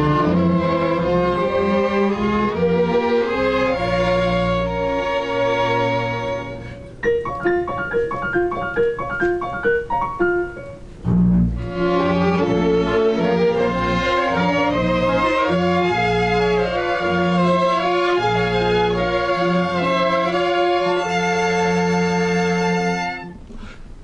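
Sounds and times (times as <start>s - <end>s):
string orchestra playing: 0.0s - 7.1s, 11.0s - 23.4s.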